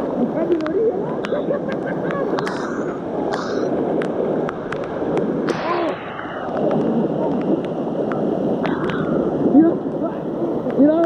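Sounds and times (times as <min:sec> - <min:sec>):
floodwater rushing through rapids: 0:00.0 - 0:11.0.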